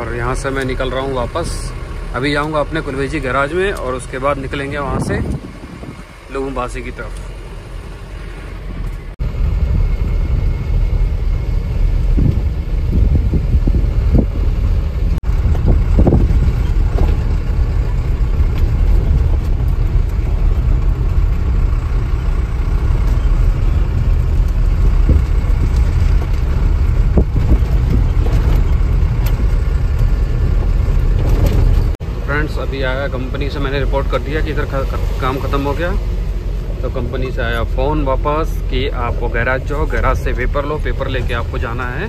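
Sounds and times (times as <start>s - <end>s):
truck engine and road rumble: 0.0s - 42.0s.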